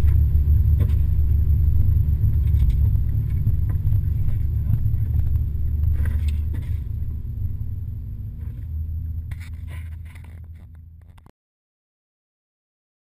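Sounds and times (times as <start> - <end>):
vehicle engine and road rumble: 0.0 - 11.3.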